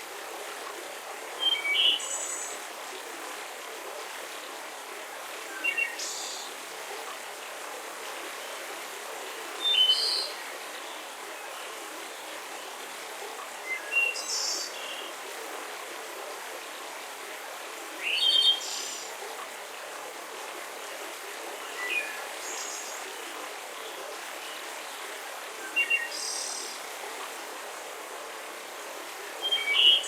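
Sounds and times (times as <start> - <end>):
forest ambience hiss: 0.0 - 30.0.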